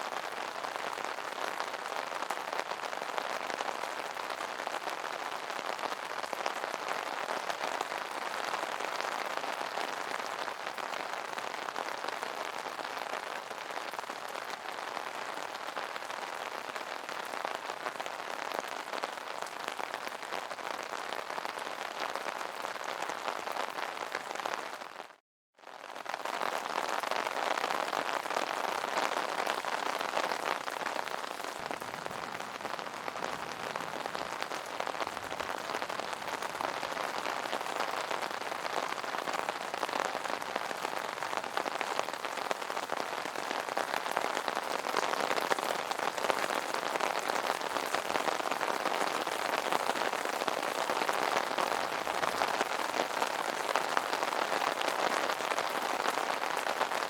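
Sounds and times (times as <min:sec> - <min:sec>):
rain falling on an umbrella: 0:00.0 - 0:57.0.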